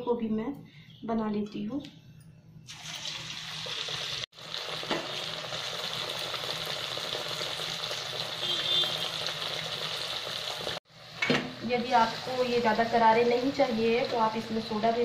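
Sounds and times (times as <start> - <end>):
food deep-frying in oil: 2.7 - 15.0.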